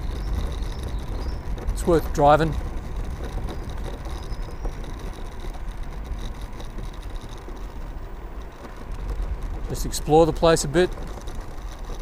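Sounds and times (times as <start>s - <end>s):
scooter road and tyre noise: 0.0s - 12.0s
wind rumbling on microphone: 0.0s - 12.0s.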